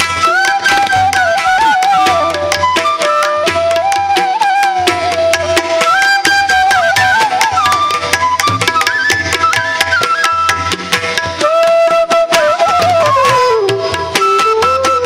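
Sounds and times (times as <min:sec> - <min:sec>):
rapid hand-drum strokes: 0:00.0 - 0:15.0.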